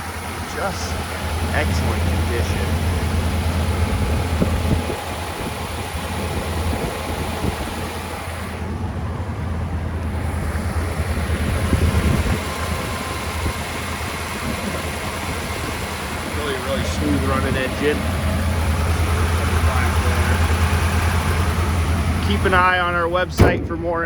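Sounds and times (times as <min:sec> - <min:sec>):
v eight engine idling: 0:00.0 - 0:24.0.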